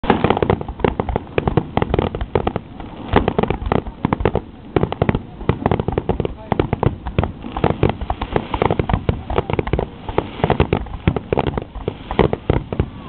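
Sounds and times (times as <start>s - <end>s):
fireworks shells bursting: 0.0s - 13.0s.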